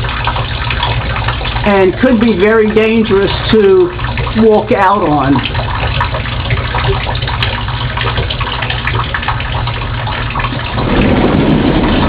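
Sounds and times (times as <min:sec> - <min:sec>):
water dripping and splashing: 0:00.0 - 0:12.0.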